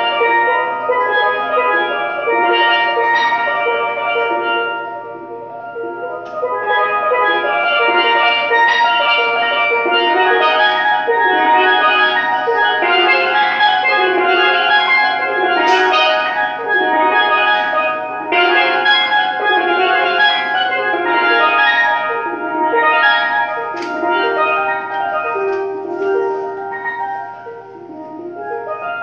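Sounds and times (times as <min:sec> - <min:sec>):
steelpan notes: 0:00.0 - 0:29.0.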